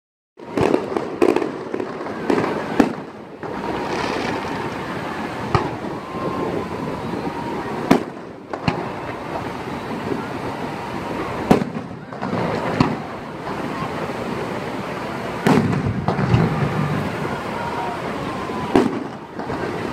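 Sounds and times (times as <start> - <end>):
fireworks bangs: 0.4 - 19.9.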